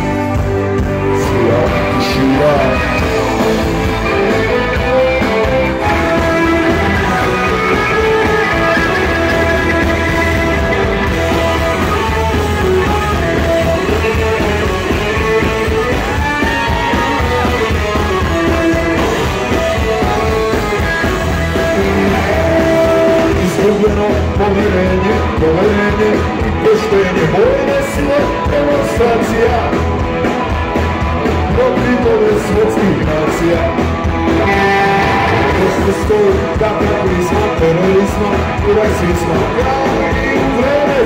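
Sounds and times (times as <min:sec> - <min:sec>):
bass guitar: 0:00.0 - 0:41.0
electric guitars: 0:00.0 - 0:41.0.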